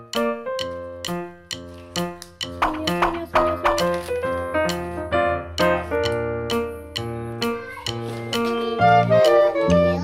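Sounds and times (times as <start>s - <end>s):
light melody of short notes: 0.1s - 10.0s.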